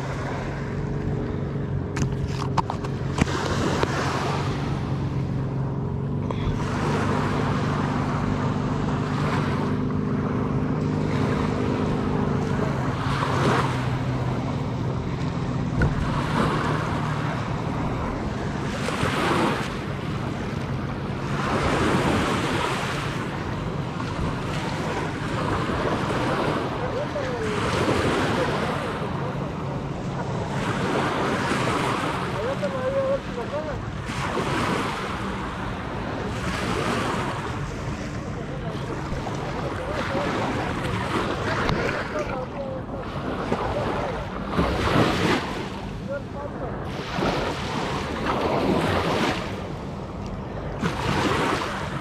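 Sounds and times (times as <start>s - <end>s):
water lapping at shore: 0.0s - 52.0s.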